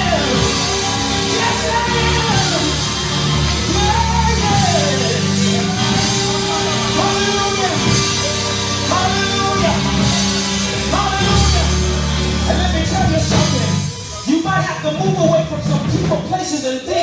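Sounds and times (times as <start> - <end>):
person singing: 0.0 - 15.6
gospel band playing: 0.0 - 17.0.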